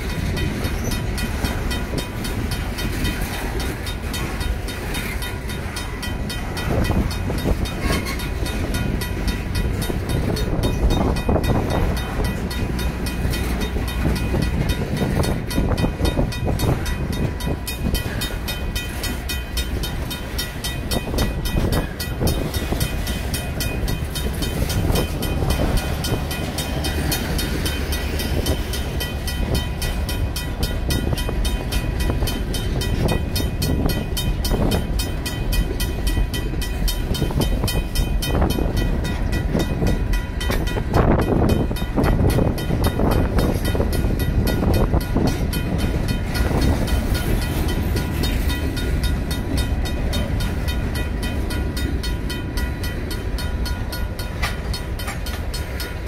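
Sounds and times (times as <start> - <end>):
crossing bell ringing: 0.0 - 56.0
freight train wheels rumbling: 0.0 - 56.0.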